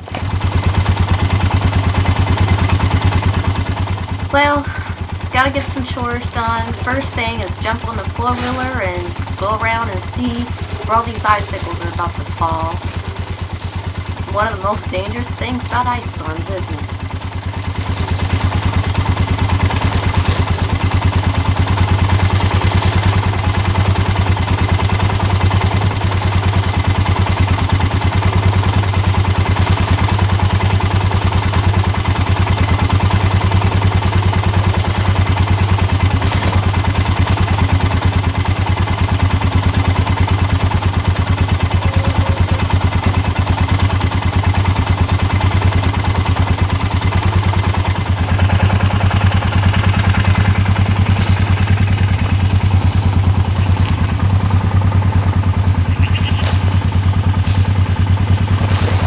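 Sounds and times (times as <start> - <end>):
atv engine running steadily: 0.0 - 59.0.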